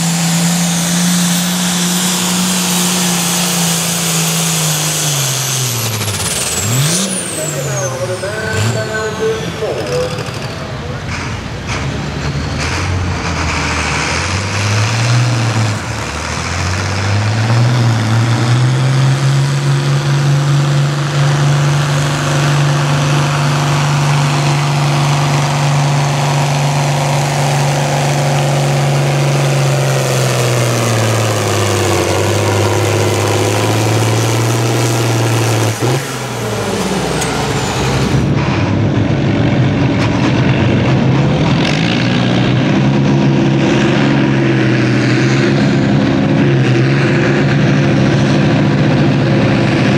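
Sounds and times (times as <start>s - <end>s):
tractor engine under heavy load: 0.0s - 49.9s.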